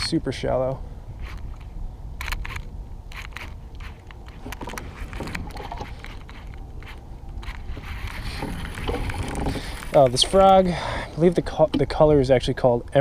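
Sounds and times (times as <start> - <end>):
steady low rumble: 0.0 - 13.0
light clicks and knocks of gear: 1.2 - 13.0.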